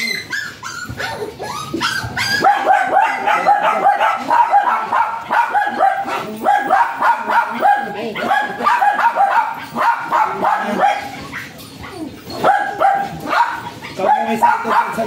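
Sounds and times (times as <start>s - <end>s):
dog yapping: 0.0s - 15.0s.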